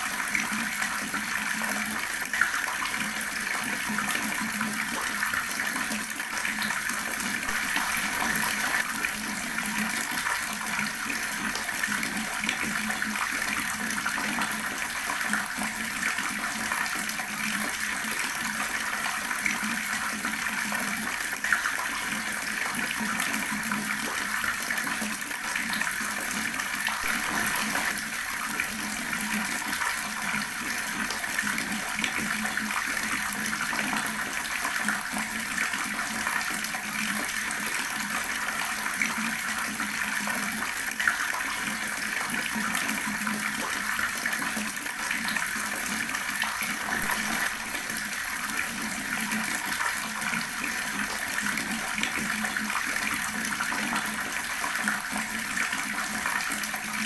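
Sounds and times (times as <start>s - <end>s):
water running from tap and splashing: 0.0s - 57.0s.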